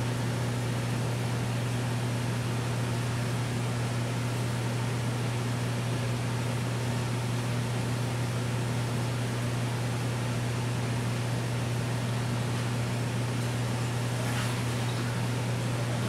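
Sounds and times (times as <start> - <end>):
aquarium pump hum: 0.0 - 16.0.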